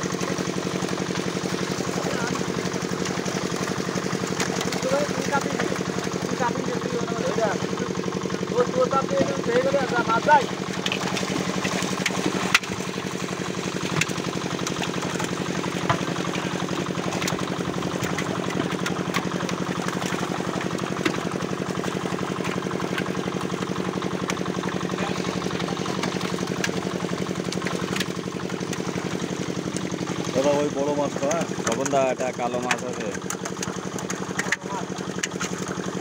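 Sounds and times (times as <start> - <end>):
fish splashing in net: 0.0 - 8.5, 9.4 - 36.0
small engine running: 0.0 - 36.0.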